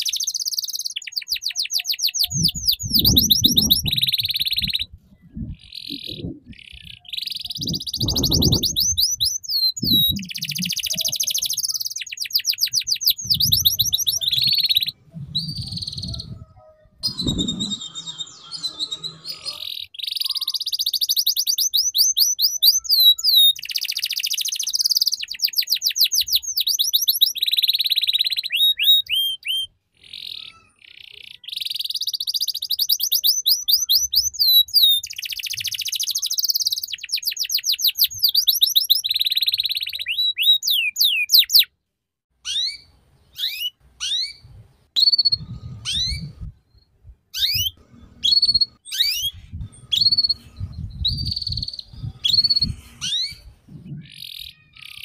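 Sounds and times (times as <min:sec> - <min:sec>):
canary singing trills: 0:00.0 - 0:41.7, 0:42.4 - 0:55.0.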